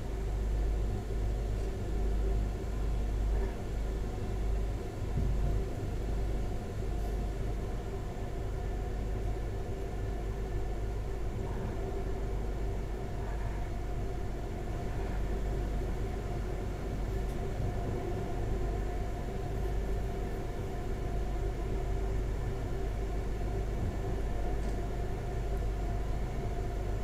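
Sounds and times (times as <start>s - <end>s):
rumble of wheels on track: 0.0s - 27.0s.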